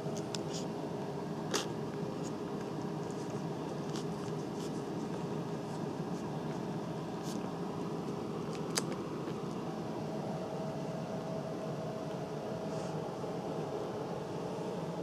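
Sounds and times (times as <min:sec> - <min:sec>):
fan-like hum and hiss: 0:00.0 - 0:15.0.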